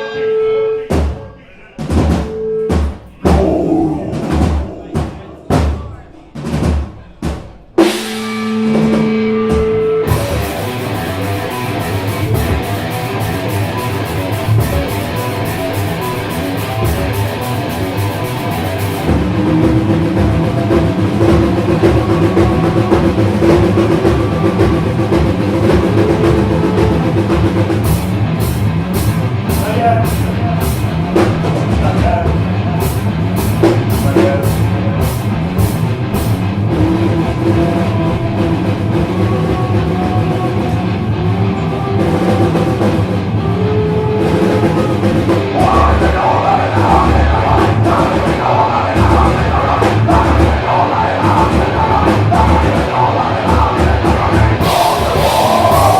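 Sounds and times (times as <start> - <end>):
rock band playing loud: 0.0 - 55.9
evenly spaced sharp hits: 1.8 - 55.9.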